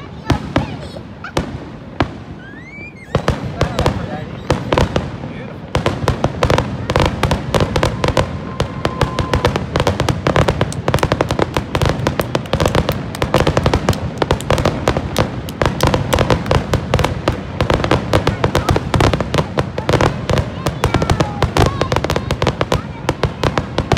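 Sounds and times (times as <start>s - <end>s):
fireworks bangs and crackling: 0.0s - 23.9s.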